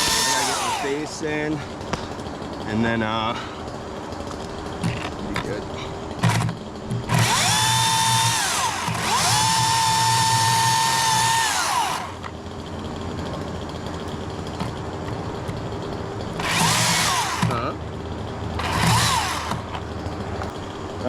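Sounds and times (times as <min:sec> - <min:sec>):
electric chainsaw cutting wood: 0:00.0 - 0:03.0, 0:06.1 - 0:20.0.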